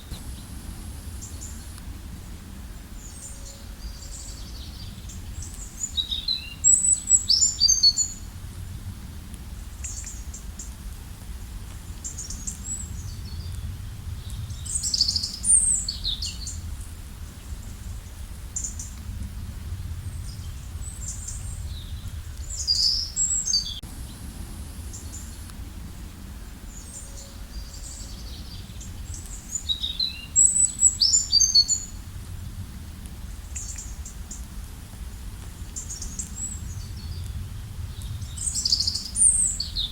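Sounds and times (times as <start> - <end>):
songbirds chirping: 0.0 - 8.4, 12.0 - 32.1, 33.0 - 34.6, 35.2 - 39.9.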